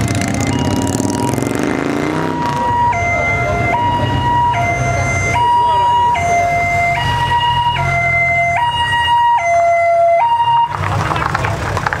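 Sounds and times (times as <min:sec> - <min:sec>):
two-tone emergency siren: 0:00.0 - 0:10.8
passing vehicle engine: 0:00.0 - 0:12.0
road noise: 0:00.0 - 0:12.0.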